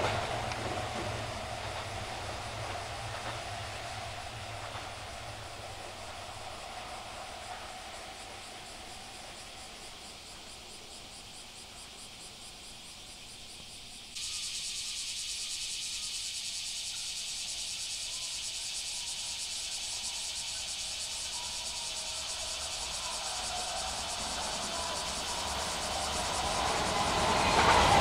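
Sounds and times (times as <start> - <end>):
cicadas singing: 0.0 - 28.0
electric train rumble and whine: 0.0 - 28.0
insect chirps: 0.0 - 28.0.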